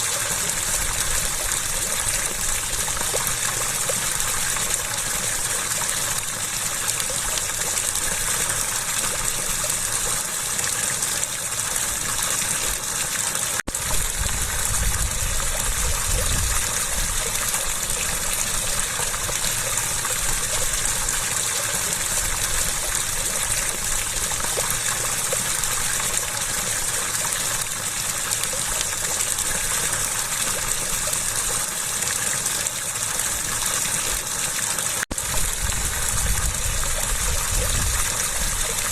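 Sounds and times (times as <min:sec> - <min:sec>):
water gushing and splashing: 0:00.0 - 0:38.9.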